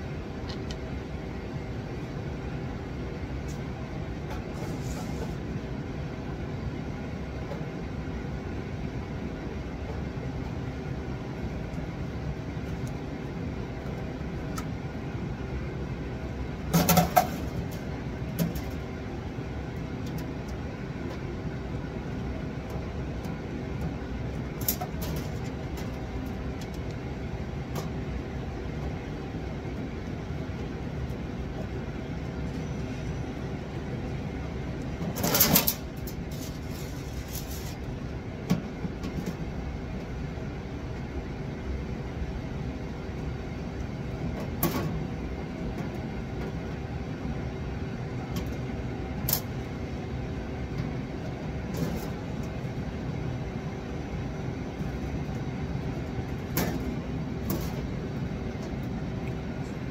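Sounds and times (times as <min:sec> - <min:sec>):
steady hum: 0:00.0 - 0:59.9.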